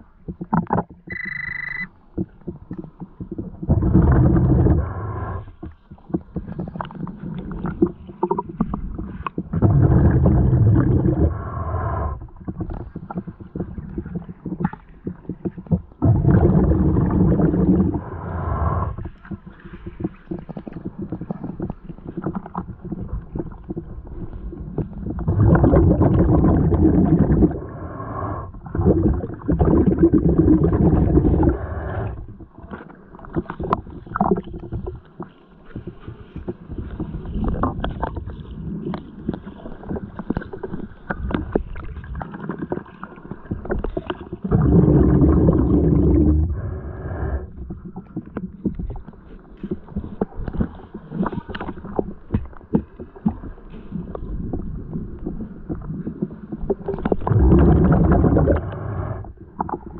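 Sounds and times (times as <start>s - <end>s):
muffled underwater water rush: 0.0s - 59.9s
small underwater clicks: 0.0s - 59.9s.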